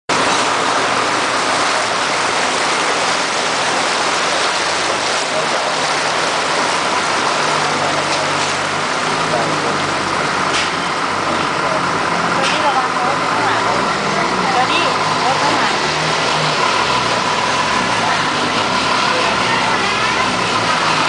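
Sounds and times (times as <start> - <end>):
floodwater rushing and splashing: 0.1 - 21.0
low engine hum: 0.1 - 21.0.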